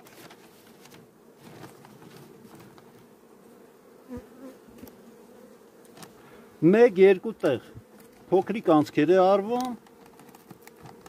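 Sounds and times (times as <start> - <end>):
bees buzzing: 0.4 - 11.0.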